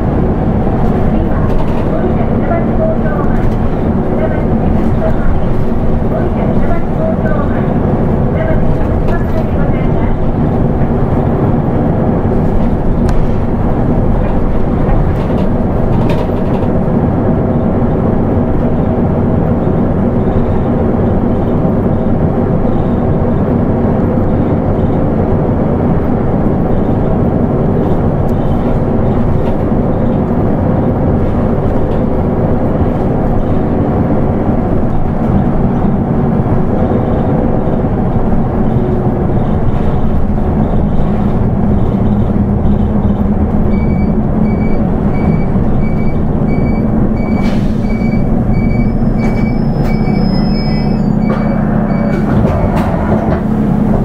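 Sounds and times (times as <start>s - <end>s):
diesel bus engine drone: 0.0s - 54.0s.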